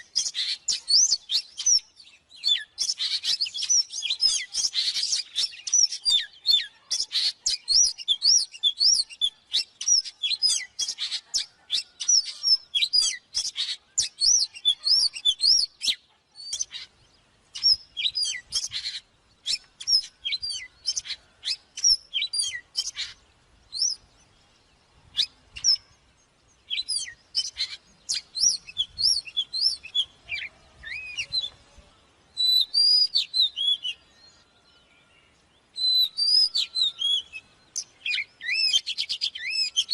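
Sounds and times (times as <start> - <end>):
bird singing varied whistles: 0.0 - 16.9, 17.6 - 24.0, 25.1 - 25.9, 26.7 - 31.6, 32.4 - 34.0, 35.8 - 39.9.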